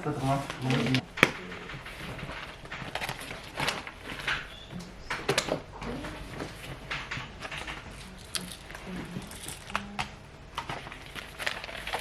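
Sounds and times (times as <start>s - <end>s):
paper rustling and clicks: 0.0s - 12.0s.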